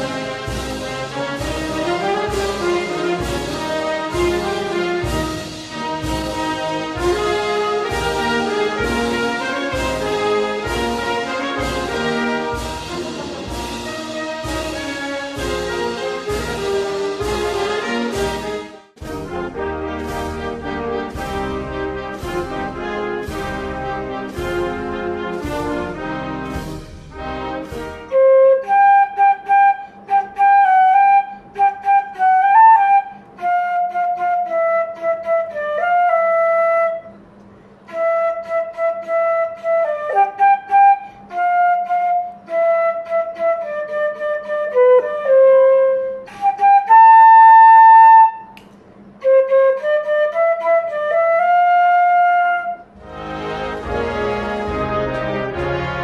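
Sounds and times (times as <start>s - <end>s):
solo flute melody: 0.0s - 56.0s.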